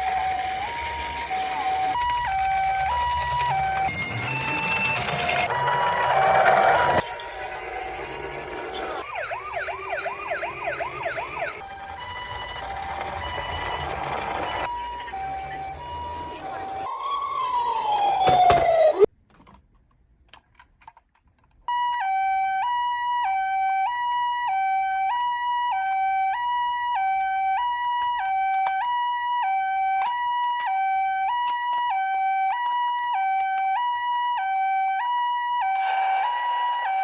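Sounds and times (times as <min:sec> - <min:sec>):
falling siren wail: 0:00.0 - 0:19.1, 0:21.7 - 0:37.0
two-tone ambulance siren: 0:00.0 - 0:19.1, 0:21.7 - 0:37.0.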